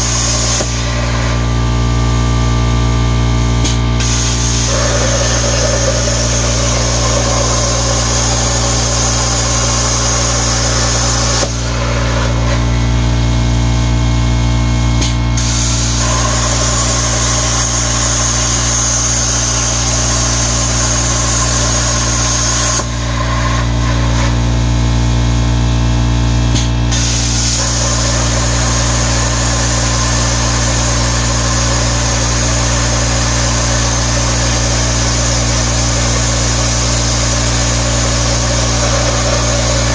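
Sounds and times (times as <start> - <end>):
plasma arc hissing: 0.0 - 2.3, 3.8 - 14.1, 15.0 - 25.4, 26.6 - 39.9
low machine hum: 0.0 - 39.9.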